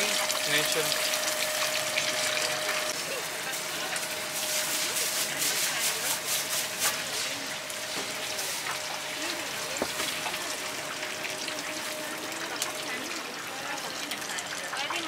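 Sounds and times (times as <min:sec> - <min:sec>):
oil sizzling in deep fryer: 0:00.0 - 0:15.0.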